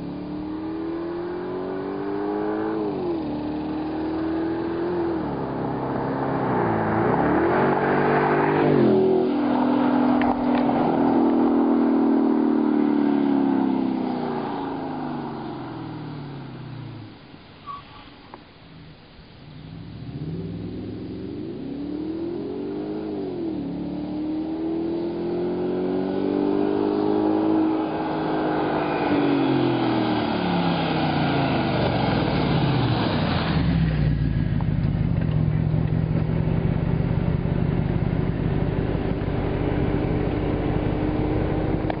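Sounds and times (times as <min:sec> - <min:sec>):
car exhaust roaring past: 0:00.0 - 0:42.0.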